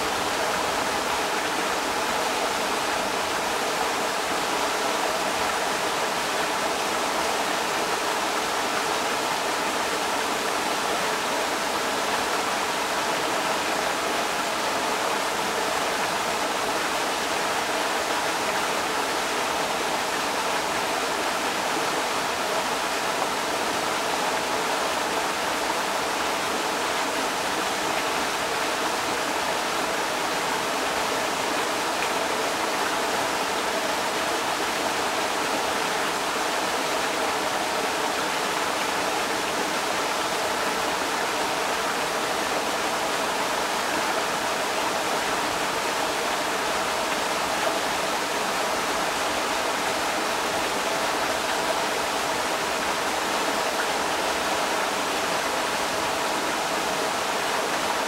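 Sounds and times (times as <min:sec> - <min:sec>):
creek rushing over rocks: 0:00.0 - 0:58.0.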